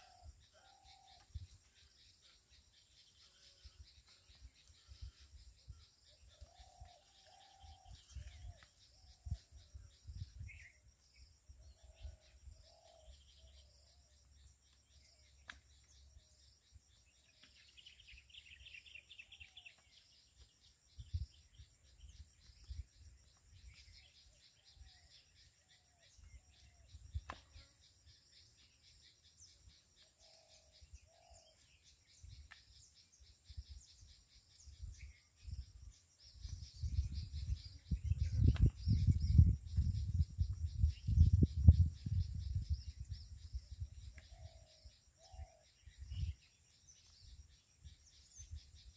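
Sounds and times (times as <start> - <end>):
faint bird calls: 0.0 - 40.0, 41.9 - 48.9.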